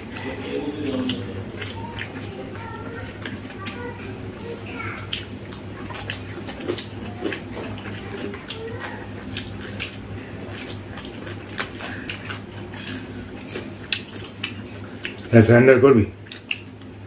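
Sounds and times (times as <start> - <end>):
fingers squishing food: 0.0 - 17.0
mouths smacking while chewing: 0.0 - 17.0
steady low hum: 0.0 - 17.0.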